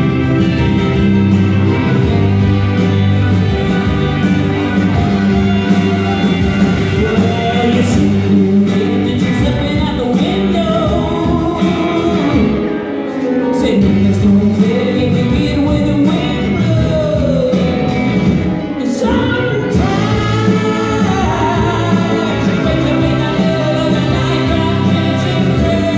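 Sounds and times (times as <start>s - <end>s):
live rock band playing: 0.0s - 25.9s
person singing: 3.5s - 25.9s.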